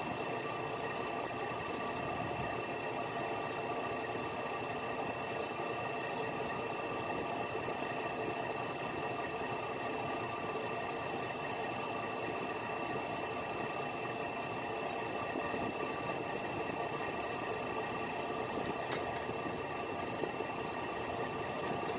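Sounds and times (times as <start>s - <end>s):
boat engine droning: 0.0s - 21.9s.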